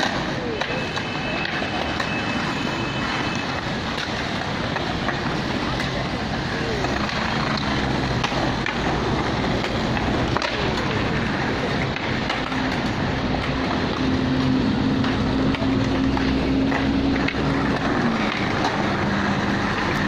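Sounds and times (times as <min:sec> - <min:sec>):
skateboard wheels rolling on stone: 0:00.0 - 0:20.0
skateboards clacking on ground: 0:00.0 - 0:20.0.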